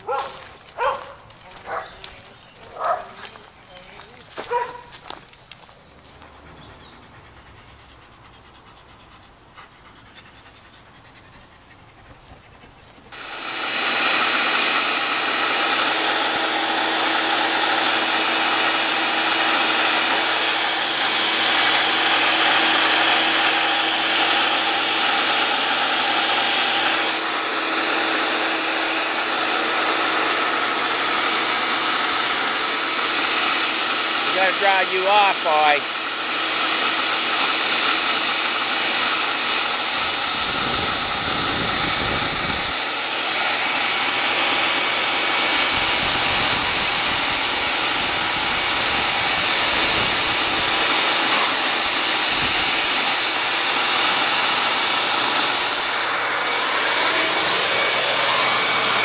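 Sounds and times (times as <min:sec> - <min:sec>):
leaf blower running: 0:00.0 - 0:08.0, 0:13.0 - 0:59.0.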